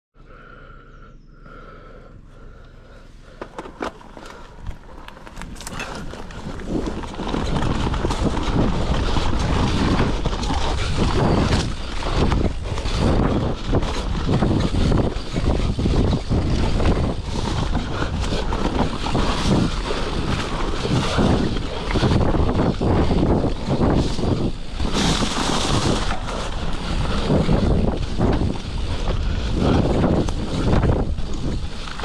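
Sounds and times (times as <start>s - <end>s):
bike rattling and knocking: 3.3s - 32.0s
tyres rolling over dirt: 3.3s - 32.0s
wind rushing over microphone: 3.7s - 32.0s.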